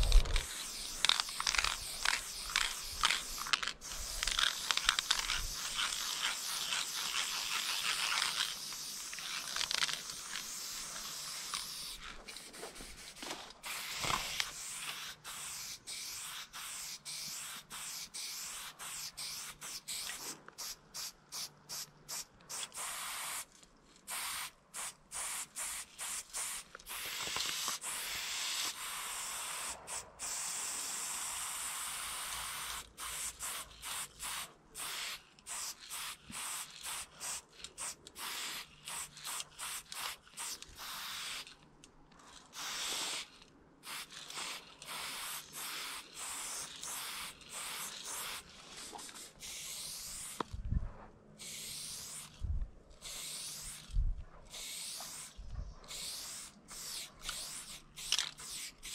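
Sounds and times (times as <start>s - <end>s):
spray paint can hissing: 0.0s - 23.5s, 24.1s - 41.5s, 42.5s - 50.5s, 51.4s - 52.4s, 53.0s - 58.9s.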